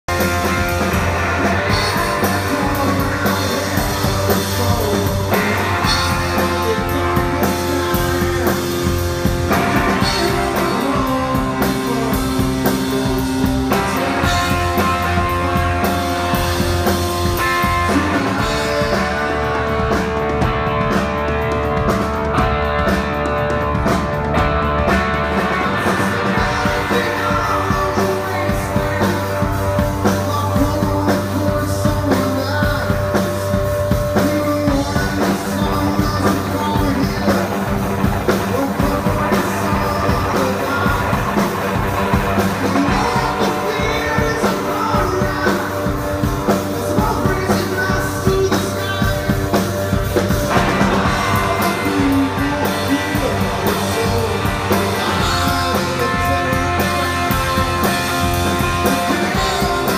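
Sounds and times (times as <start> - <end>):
bass guitar: 0.0 - 59.9
drum kit: 0.0 - 59.9
electric guitar: 0.0 - 59.9
man singing: 0.1 - 20.2, 25.4 - 59.9.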